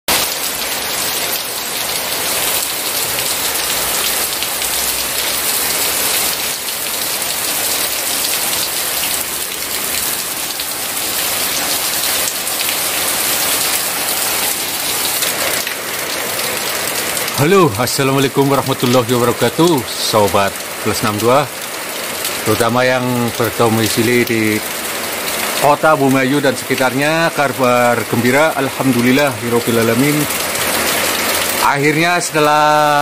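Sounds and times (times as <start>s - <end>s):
heavy rain on pavement: 0.1s - 33.0s.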